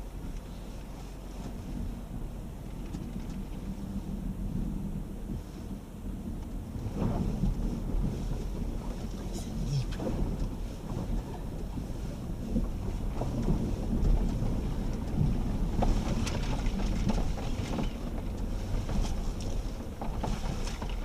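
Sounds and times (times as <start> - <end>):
vehicle rumbling over rocky road: 0.0 - 21.0.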